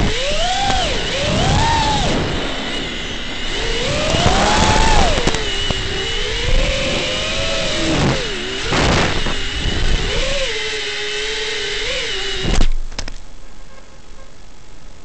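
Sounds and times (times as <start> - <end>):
rush of noise: 0.0 - 12.8
quadcopter motors whining: 0.0 - 14.3.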